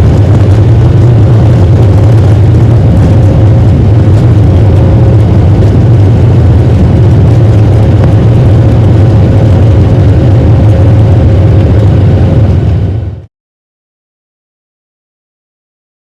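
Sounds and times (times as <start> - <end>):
jet engines rumbling in cabin: 0.0 - 13.3.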